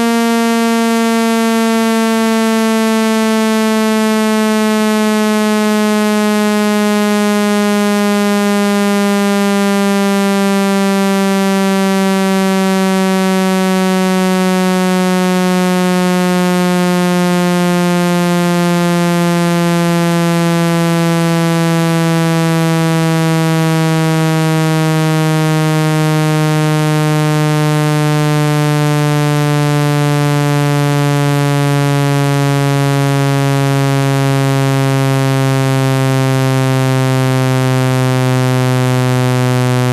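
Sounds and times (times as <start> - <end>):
buzzy low synthesized tone: 0.0 - 39.9.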